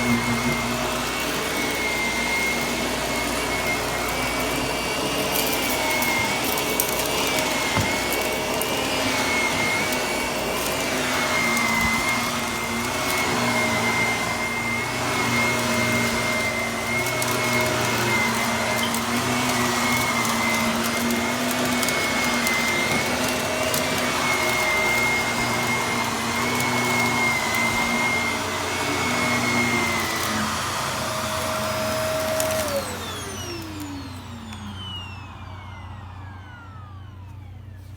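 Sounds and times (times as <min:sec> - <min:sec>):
vacuum cleaner motor whine: 0:00.0 - 0:37.9.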